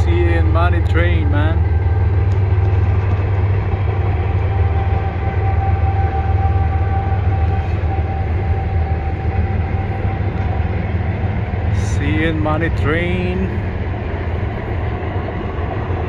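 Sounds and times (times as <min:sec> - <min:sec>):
freight train passing rumble: 0:00.0 - 0:16.0
thin steady high whine: 0:00.0 - 0:16.0.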